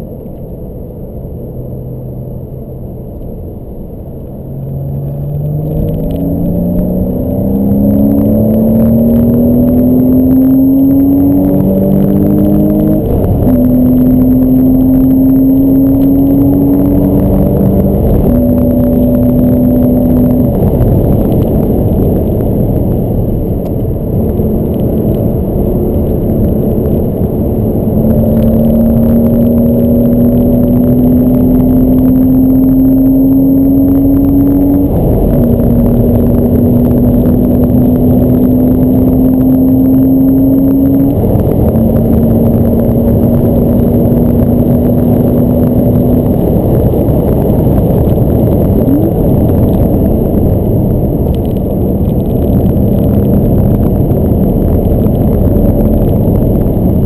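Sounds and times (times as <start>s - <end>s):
car engine pulling hard: 0.0s - 57.0s
road and wind rumble: 0.0s - 57.0s.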